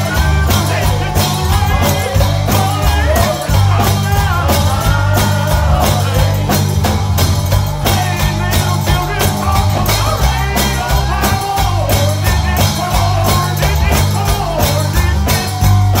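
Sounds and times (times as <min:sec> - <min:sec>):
fast steady drum beat: 0:00.0 - 0:16.0
live gospel band music: 0:00.0 - 0:16.0.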